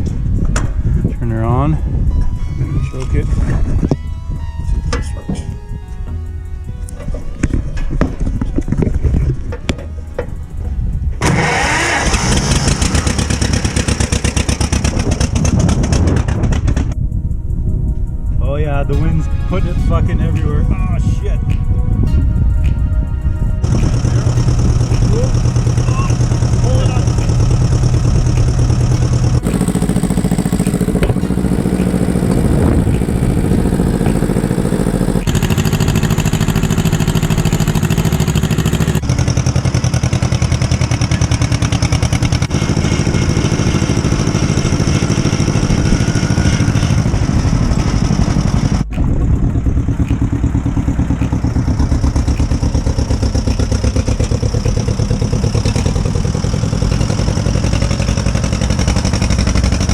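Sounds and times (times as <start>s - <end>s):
tractor engine running: 0.0s - 17.2s, 23.6s - 59.9s.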